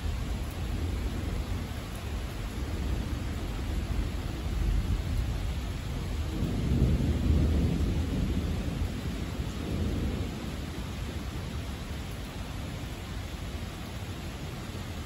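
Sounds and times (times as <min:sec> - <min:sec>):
thunder rumbling: 0:00.0 - 0:13.7
steady rain: 0:00.0 - 0:15.0.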